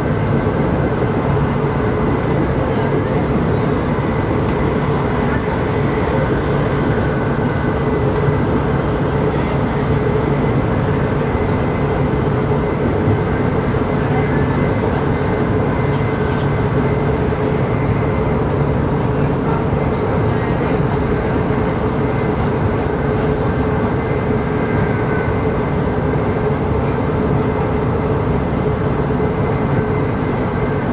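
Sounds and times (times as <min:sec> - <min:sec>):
train interior rumble: 0:00.0 - 0:30.9.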